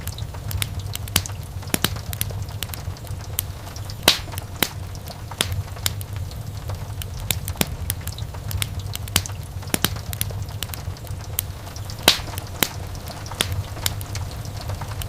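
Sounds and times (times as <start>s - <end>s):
low rumble of burning: 0.0s - 15.0s
sharp pops and snaps: 0.0s - 15.0s
wood fire crackling: 0.0s - 15.0s.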